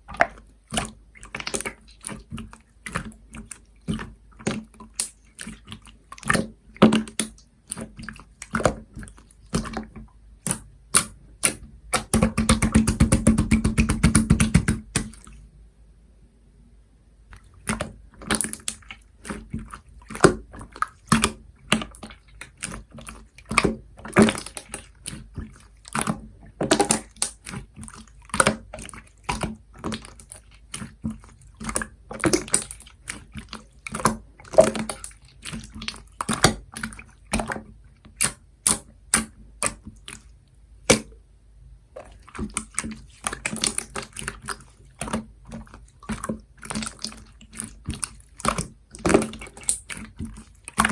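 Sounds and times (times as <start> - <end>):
slime squishing: 0.0 - 15.5, 17.3 - 41.2, 41.9 - 50.9.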